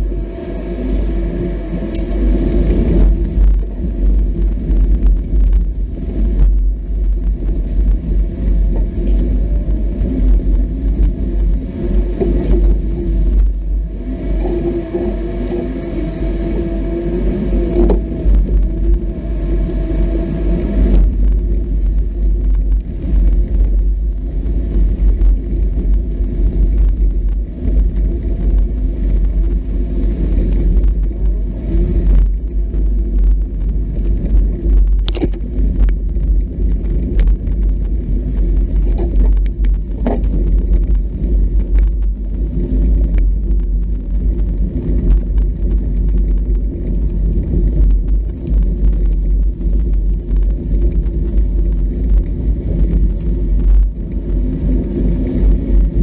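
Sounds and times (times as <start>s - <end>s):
off-road vehicle engine rumbling: 0.0s - 56.0s.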